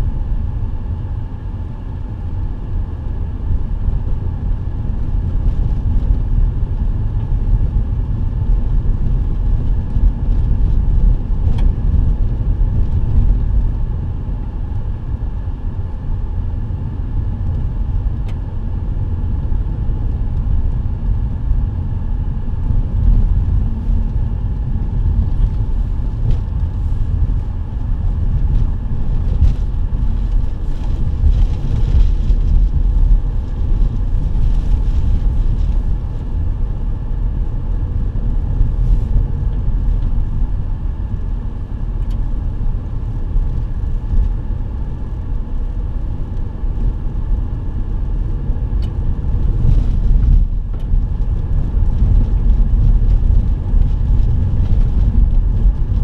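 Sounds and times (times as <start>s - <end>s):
engine and tyres on gravel rumbling: 0.0s - 56.0s.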